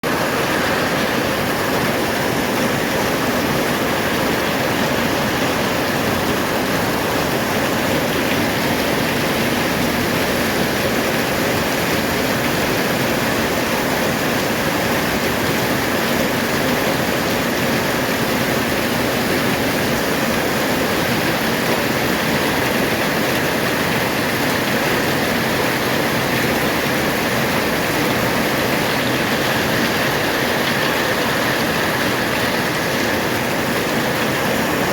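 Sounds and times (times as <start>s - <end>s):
heavy rain on a metal roof: 0.0s - 34.9s.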